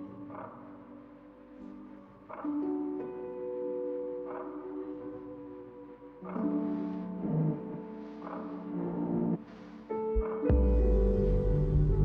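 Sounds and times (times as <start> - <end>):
ambient music tones: 0.0 - 12.0.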